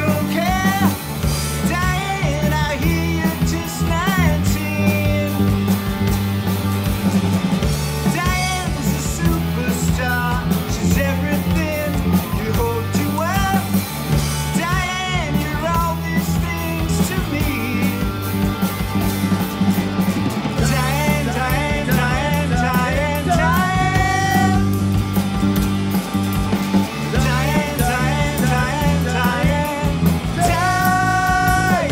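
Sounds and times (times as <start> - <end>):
rock band playing: 0.0 - 31.9.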